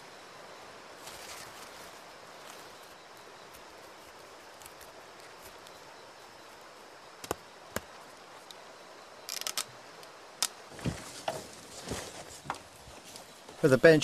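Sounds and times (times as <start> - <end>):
low forest background: 0.0 - 14.0.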